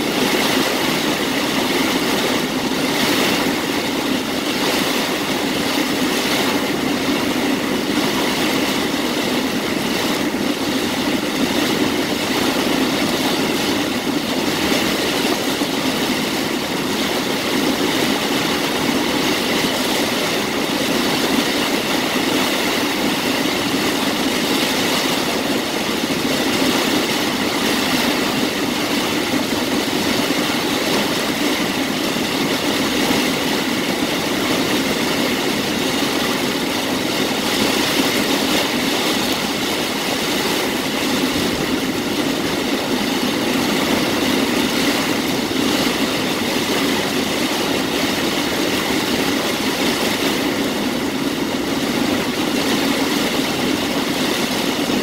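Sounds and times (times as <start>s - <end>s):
heavy rain on car roof: 0.0s - 55.0s.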